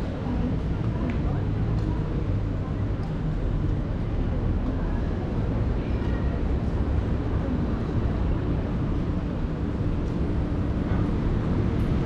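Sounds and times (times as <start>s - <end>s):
busy street hum: 0.0s - 12.0s
traffic rumble: 0.0s - 12.0s.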